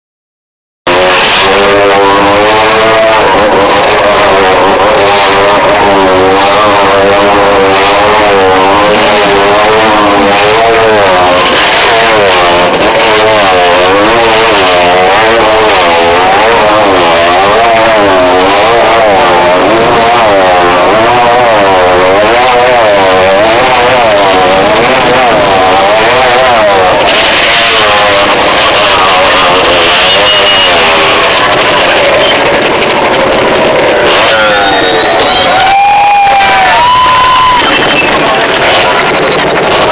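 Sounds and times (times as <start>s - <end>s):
motorcycle engines running hard: 0.9s - 39.9s.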